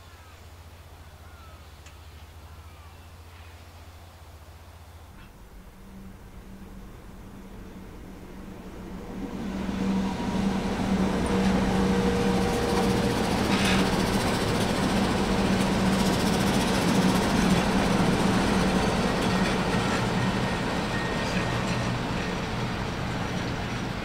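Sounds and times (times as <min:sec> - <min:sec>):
locomotive engine drone: 0:00.0 - 0:24.0
rail noise: 0:00.0 - 0:24.0.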